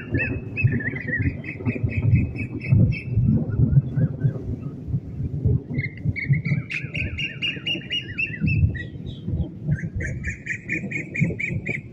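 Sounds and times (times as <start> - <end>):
birds calling in fast runs: 0.0 - 4.7, 5.6 - 11.9.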